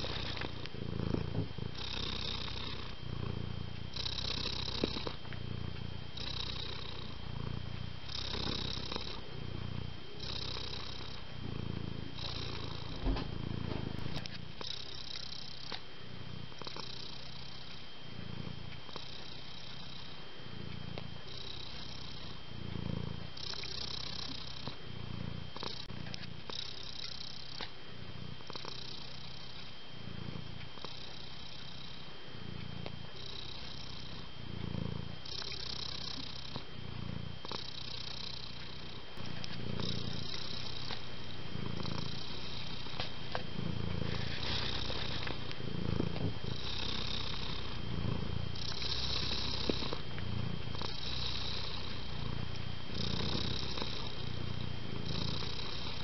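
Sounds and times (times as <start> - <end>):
cat purring: 0.0 - 56.0.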